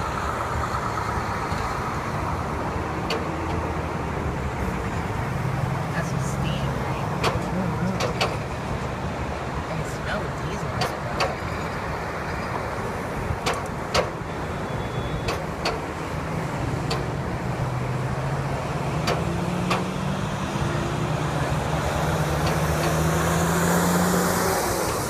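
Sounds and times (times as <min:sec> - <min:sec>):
heavy truck engine drone: 0:00.0 - 0:25.0
highway traffic rushing: 0:00.0 - 0:25.0.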